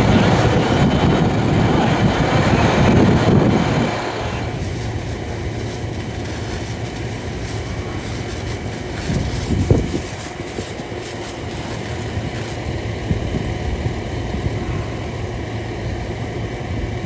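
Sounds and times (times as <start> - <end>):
fire engine pump rumbling: 0.0 - 17.0.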